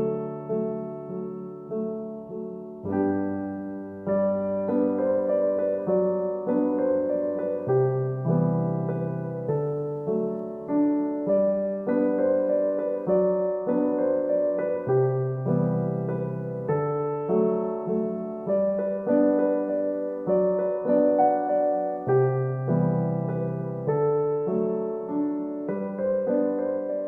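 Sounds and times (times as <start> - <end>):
slow piano piece: 0.0 - 27.0.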